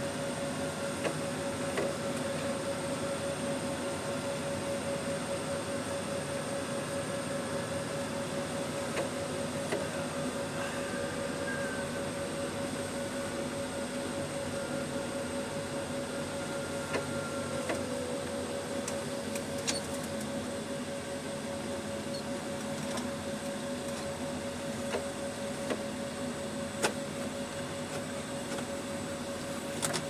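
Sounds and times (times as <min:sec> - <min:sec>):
steady whine: 0:00.0 - 0:30.0.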